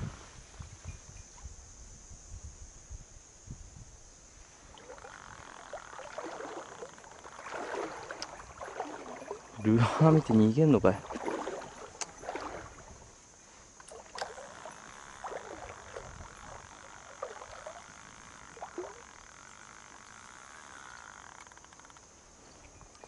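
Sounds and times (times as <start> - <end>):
mountain stream running: 4.4 - 23.0.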